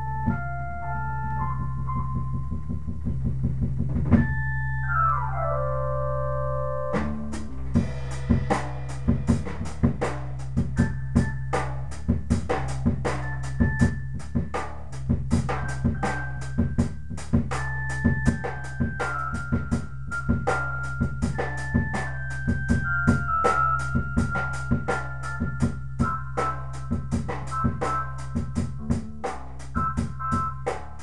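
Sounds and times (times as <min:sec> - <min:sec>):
low bass line: 0:00.0 - 0:31.0
organ-like keyboard chords: 0:00.0 - 0:31.0
drum kit groove: 0:01.8 - 0:04.5, 0:07.0 - 0:31.0.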